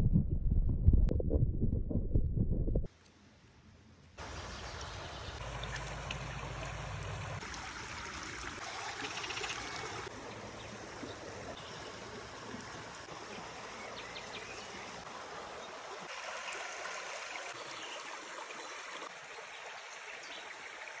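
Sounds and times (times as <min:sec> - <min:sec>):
stream water rushing: 0:04.2 - 0:21.0.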